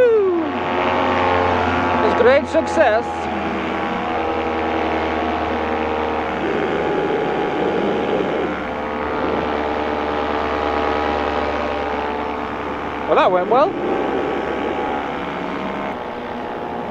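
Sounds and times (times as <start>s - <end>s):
paramotor engine drone: 0.0s - 16.9s.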